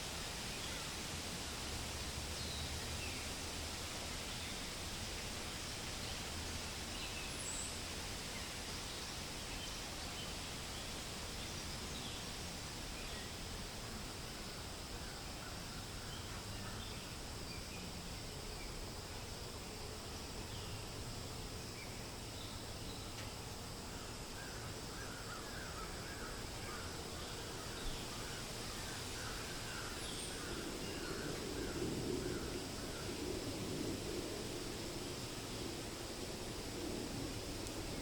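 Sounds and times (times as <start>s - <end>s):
wind through forest: 0.0s - 38.0s.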